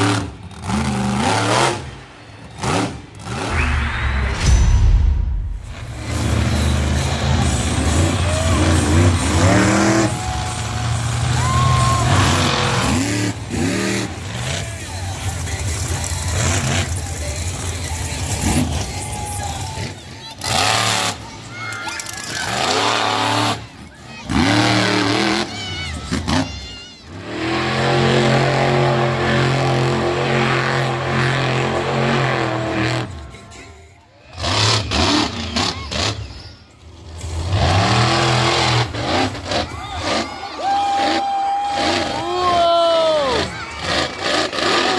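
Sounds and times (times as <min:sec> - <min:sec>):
truck engine revving: 0:00.0 - 0:21.5, 0:22.1 - 0:26.5, 0:27.1 - 0:33.6, 0:34.2 - 0:42.6, 0:43.2 - 0:44.9.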